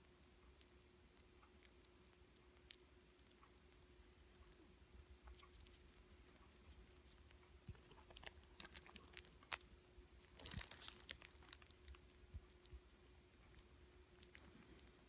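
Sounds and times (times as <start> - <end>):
opossum chewing clicks and smacks: 0.4 - 15.0.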